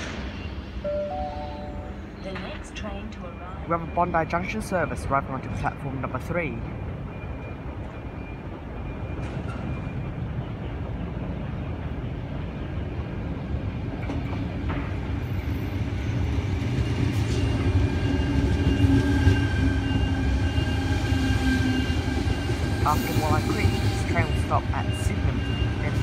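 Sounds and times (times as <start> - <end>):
train wheels rumbling on rail: 0.0 - 0.9, 2.0 - 26.0
electric train whine: 0.0 - 26.0.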